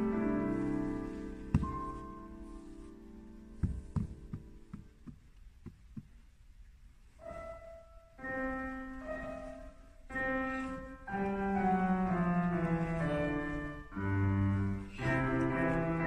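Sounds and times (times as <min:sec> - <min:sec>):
grand piano playing: 0:00.0 - 0:05.0, 0:07.1 - 0:16.0.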